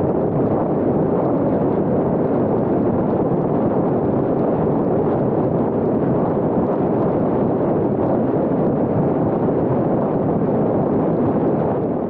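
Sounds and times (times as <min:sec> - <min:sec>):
wind and road noise in car: 0:00.0 - 0:12.0.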